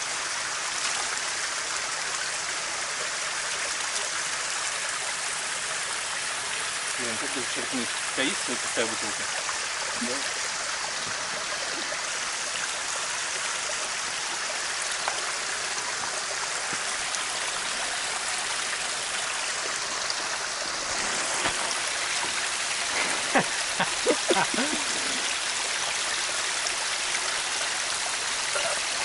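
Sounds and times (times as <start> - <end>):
creek running over stones: 0.0 - 29.0.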